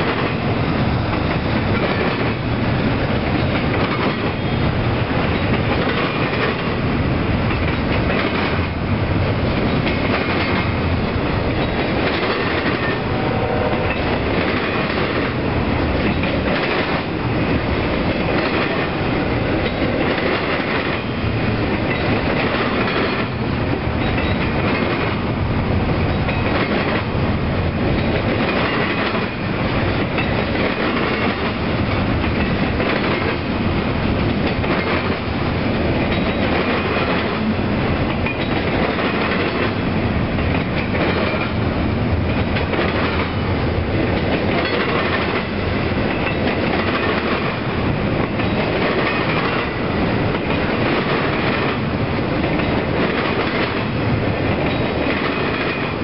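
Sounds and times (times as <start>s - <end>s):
train wheels clickety-clack on rails: 0.0s - 56.0s.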